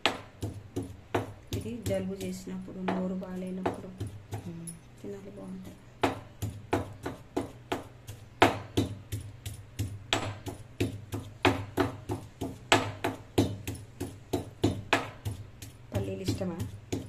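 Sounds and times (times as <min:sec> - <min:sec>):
stone pestle pounding in mortar: 0:00.0 - 0:04.9, 0:05.6 - 0:17.0.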